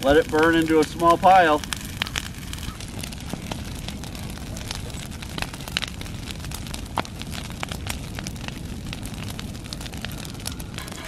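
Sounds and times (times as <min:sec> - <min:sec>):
fire crackling and popping: 0:00.0 - 0:11.0
low fire rumble: 0:00.0 - 0:11.0.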